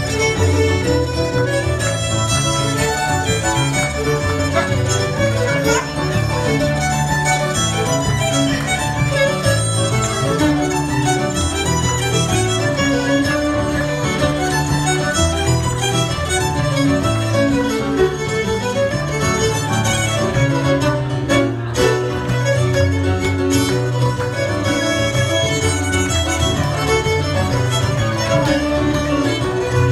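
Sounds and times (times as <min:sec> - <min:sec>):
bass notes: 0:00.0 - 0:29.9
fast fiddle tune: 0:00.0 - 0:29.9
keyboard accompaniment: 0:00.0 - 0:29.9.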